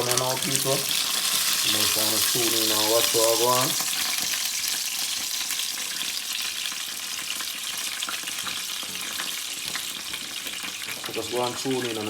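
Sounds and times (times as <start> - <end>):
butter and oil sizzling: 0.0 - 12.0.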